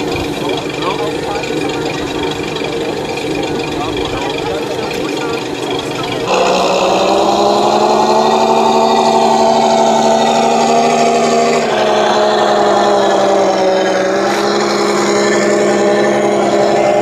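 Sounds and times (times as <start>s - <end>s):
model truck motor buzzing drone: 0.0s - 17.0s.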